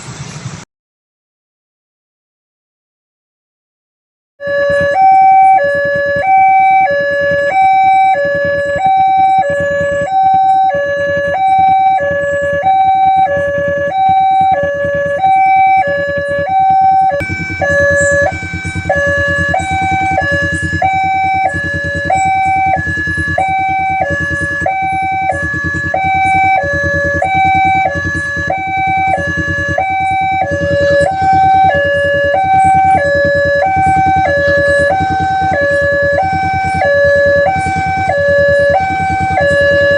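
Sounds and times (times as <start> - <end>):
two-tone electronic warning siren: 4.4 - 39.9.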